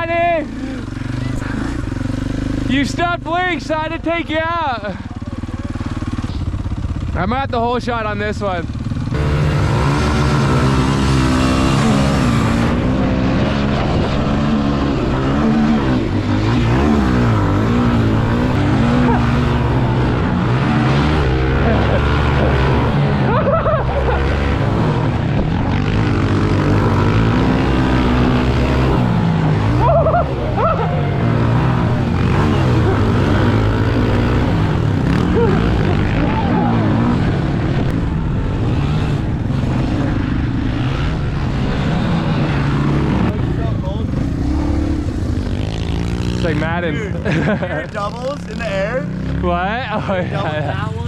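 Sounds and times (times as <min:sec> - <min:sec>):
motorbike engine revving hard: 0:08.2 - 0:50.8.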